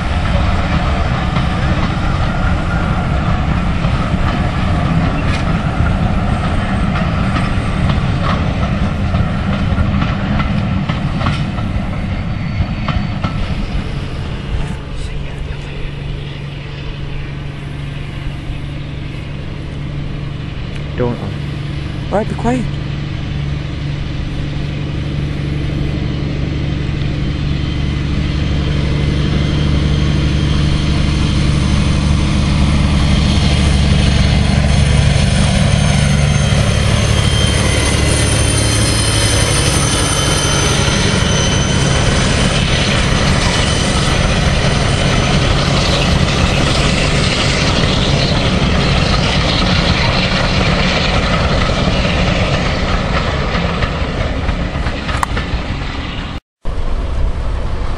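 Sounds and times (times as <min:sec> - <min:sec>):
high whine: 0:00.0 - 0:53.9
coaches rolling on rails: 0:00.0 - 0:57.9
diesel locomotive engine: 0:00.0 - 0:57.9.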